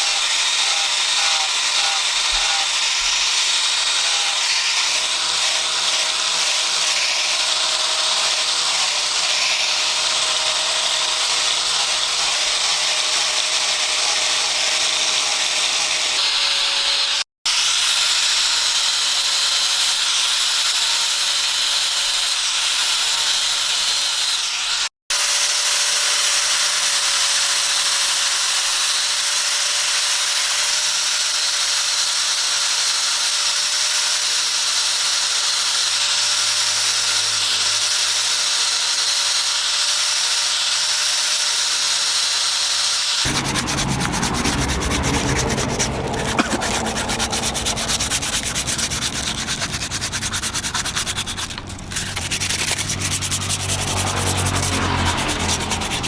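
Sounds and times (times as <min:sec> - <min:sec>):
grinder grinding metal: 0:00.0 - 0:24.9, 0:31.3 - 0:56.0.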